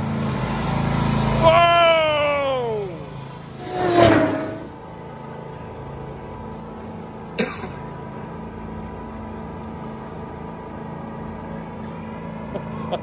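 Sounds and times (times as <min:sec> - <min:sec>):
lawn tractor engines humming: 0:00.0 - 0:13.0.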